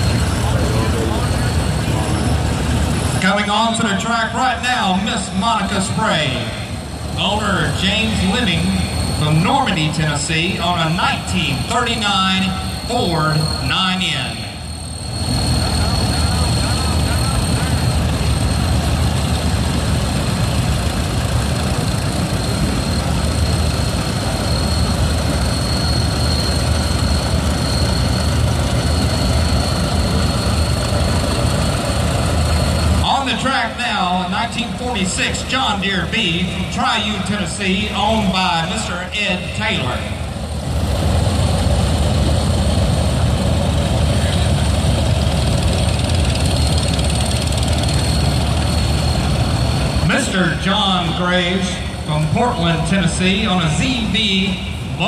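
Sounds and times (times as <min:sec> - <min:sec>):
tractor engines rumbling: 0:00.0 - 0:55.0.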